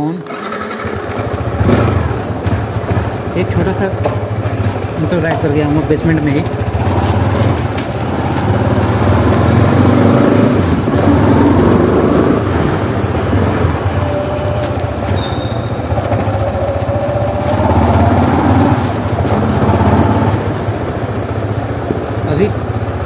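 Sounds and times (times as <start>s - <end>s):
motorcycle engine echoing: 0.0s - 23.0s.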